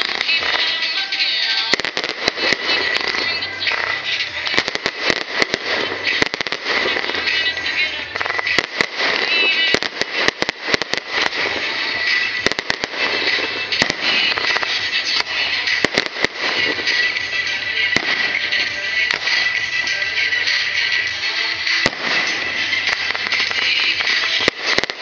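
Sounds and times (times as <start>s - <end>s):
fireworks crackling: 0.0s - 25.0s
fireworks exploding: 0.0s - 25.0s.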